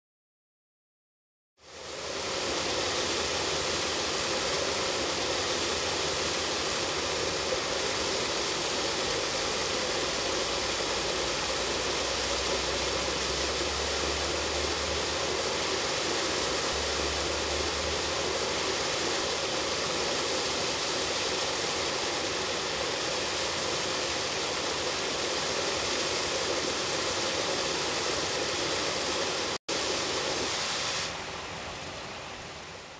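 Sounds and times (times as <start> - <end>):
water splashing onto pond: 1.8 - 32.1.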